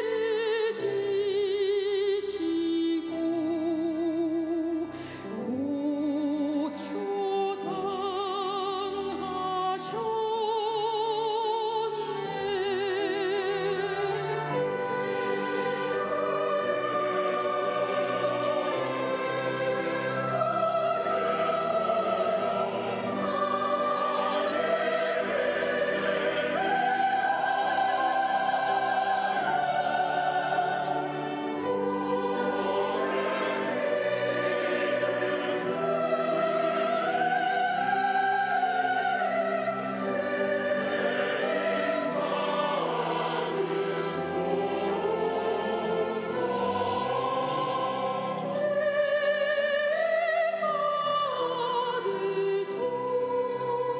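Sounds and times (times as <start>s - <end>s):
church choir singing: 0.0s - 53.9s
orchestral accompaniment: 0.0s - 53.9s.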